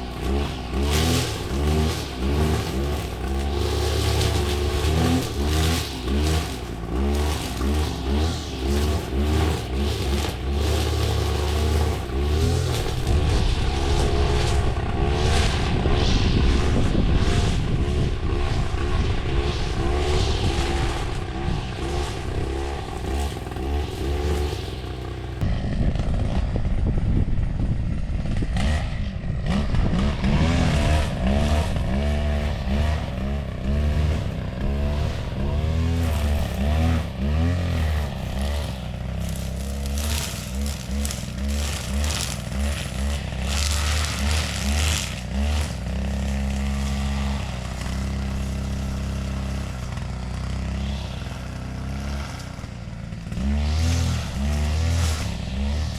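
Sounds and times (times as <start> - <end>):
lawn mower engine running: 0.0 - 16.1, 16.8 - 55.9.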